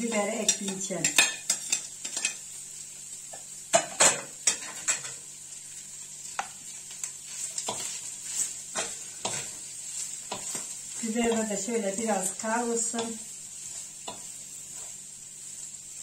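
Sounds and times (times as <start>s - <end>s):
meat sizzling in a frying pan: 0.0s - 16.0s
spoon knocking and scraping pan: 0.1s - 2.4s, 3.3s - 5.2s, 6.2s - 15.0s.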